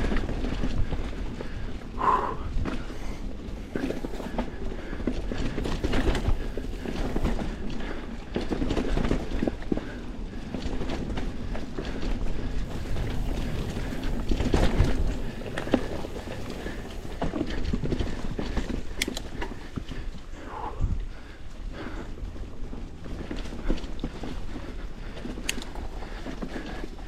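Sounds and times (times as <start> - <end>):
bike rattling over bumps: 0.0 - 27.0
bike tyres rolling over dirt: 0.0 - 27.0.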